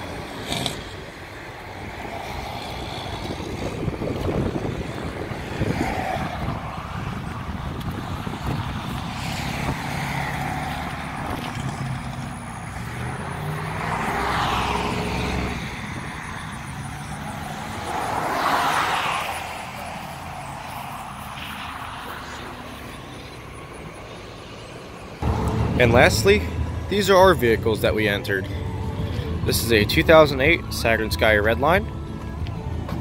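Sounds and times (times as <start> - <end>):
engine hum: 0.0 - 33.0
vehicles passing by: 0.0 - 33.0.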